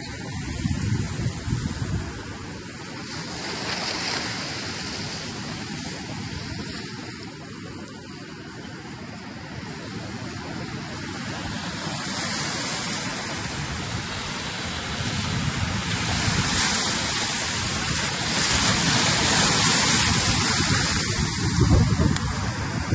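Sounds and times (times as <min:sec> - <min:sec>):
sea surf: 0:00.0 - 0:22.9
wind noise on microphone: 0:00.0 - 0:22.9.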